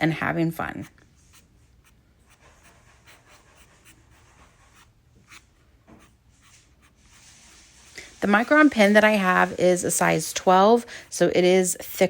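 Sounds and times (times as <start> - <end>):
pen scratching on paper: 0.0 - 12.0.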